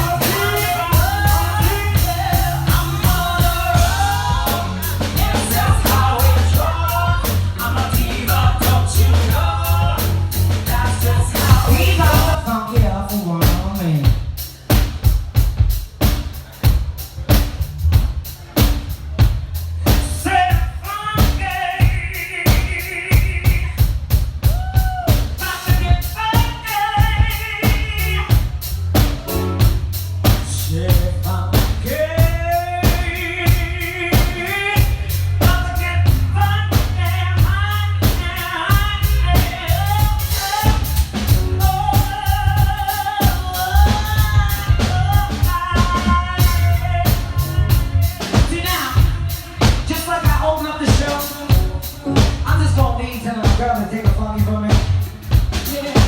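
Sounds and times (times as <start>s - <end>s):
bass line: 0.0s - 56.0s
drum kit beat: 0.0s - 56.0s.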